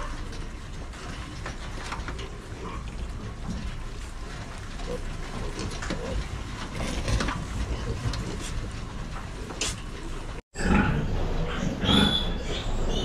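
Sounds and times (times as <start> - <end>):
piglets moving in a pen: 0.0 - 13.0
pigs grunting: 0.0 - 13.0.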